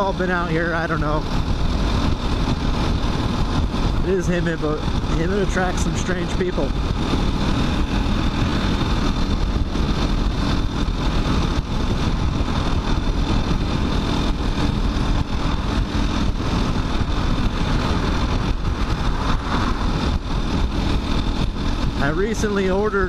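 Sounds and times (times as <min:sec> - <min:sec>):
motorcycle engine cruising: 0:00.0 - 0:23.0
wind rushing over microphone: 0:00.0 - 0:23.0.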